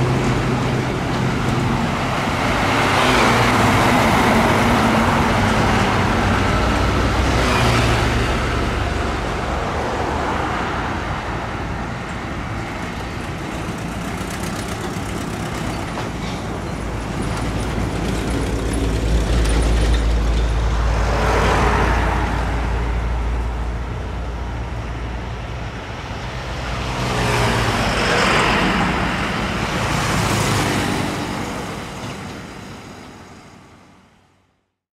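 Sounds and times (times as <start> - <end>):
tyre and road noise: 0.0 - 34.0
diesel trucks passing: 0.0 - 34.4.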